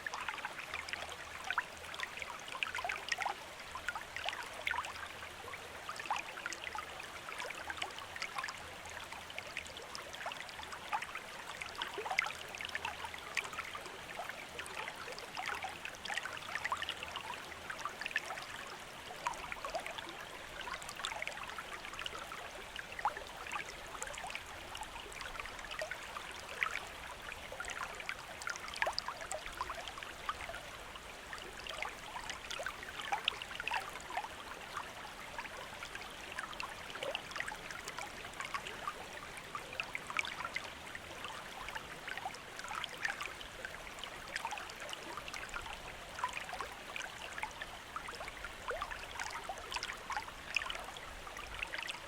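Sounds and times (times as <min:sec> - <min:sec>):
stream water babbling: 0:00.0 - 0:52.0.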